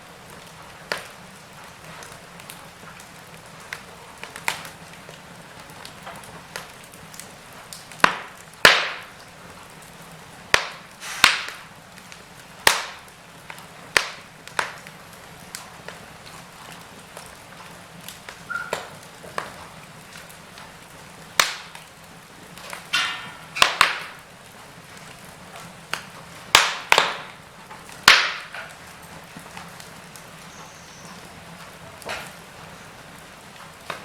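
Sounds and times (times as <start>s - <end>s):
fireplace fire crackling: 0.0s - 34.0s
low steady hiss: 0.0s - 34.0s.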